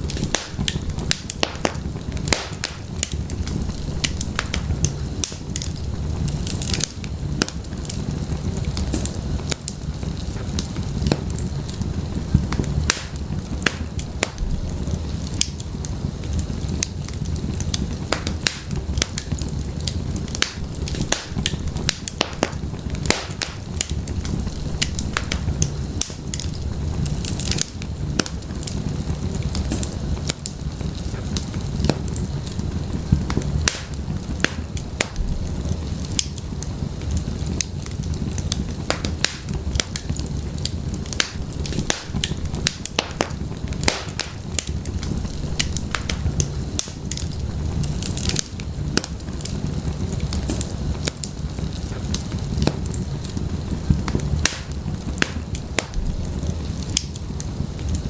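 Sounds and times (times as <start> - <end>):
firewood crackling and popping: 0.0 - 58.0
low rumble of flames: 0.0 - 58.0.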